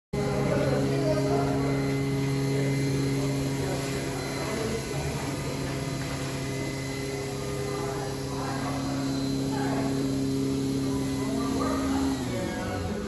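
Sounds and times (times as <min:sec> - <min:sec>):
vending machine electrical hum: 0:00.2 - 0:13.0.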